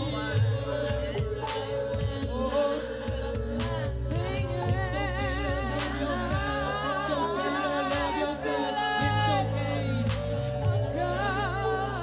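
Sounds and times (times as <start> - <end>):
person singing wordless vocals: 0.0 - 12.0
wooden flute melody: 0.0 - 12.0.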